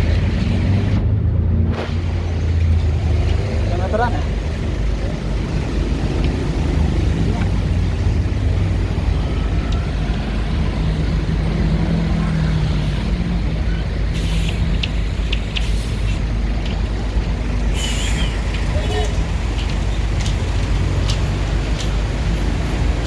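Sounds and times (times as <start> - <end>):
heavy engine rumbling: 0.0 - 23.0.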